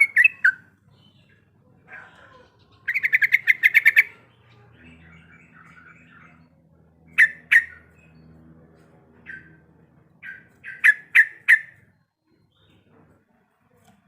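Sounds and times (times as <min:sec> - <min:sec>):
bulbul singing: 0:00.0 - 0:08.4, 0:09.2 - 0:13.1.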